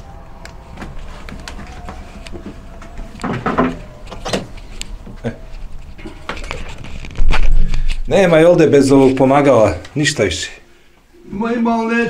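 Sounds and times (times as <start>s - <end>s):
footsteps: 0.0s - 10.1s.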